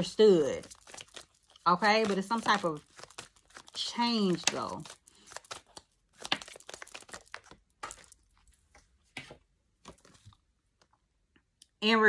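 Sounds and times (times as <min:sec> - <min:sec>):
cards being shuffled: 0:00.0 - 0:10.4.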